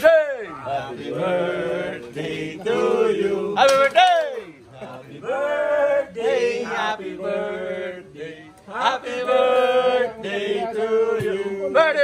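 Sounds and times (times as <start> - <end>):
male voices singing long notes: 0.0 - 12.0.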